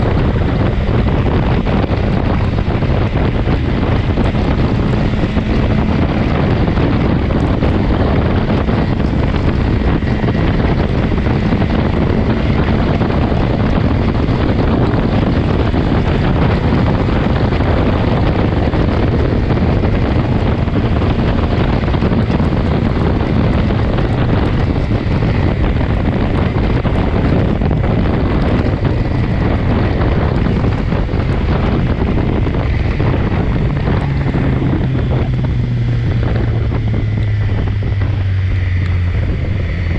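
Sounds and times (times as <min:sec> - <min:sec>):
faint motorcycle engine: 0:00.0 - 0:39.9
wind rush on microphone: 0:00.0 - 0:39.9.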